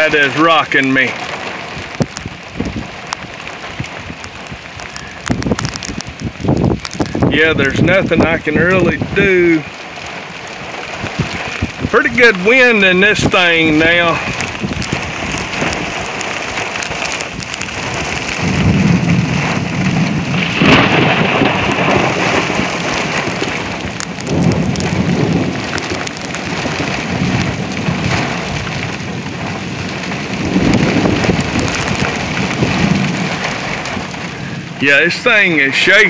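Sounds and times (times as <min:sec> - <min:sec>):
heavy rain pelting a car: 0:00.0 - 0:36.0
low thunder rumble: 0:00.0 - 0:36.0
strong wind gusts: 0:00.0 - 0:36.0.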